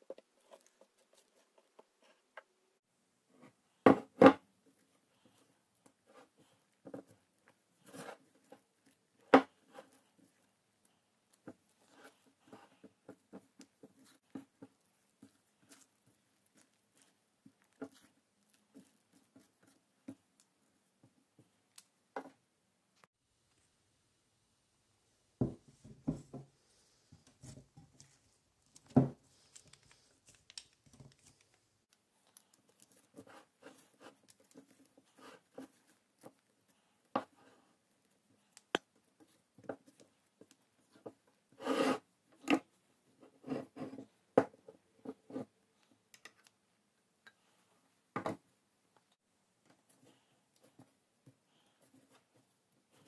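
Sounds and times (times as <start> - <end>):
wooden spoon stirring play dough: 0.0 - 22.5, 25.4 - 53.0.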